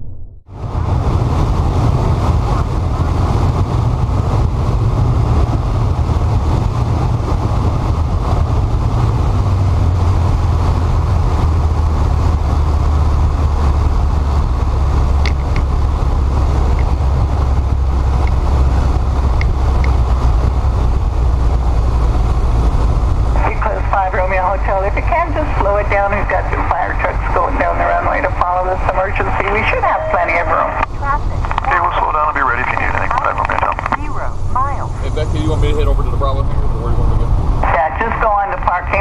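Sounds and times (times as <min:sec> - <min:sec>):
light aircraft engine and propeller: 0:00.6 - 0:39.0.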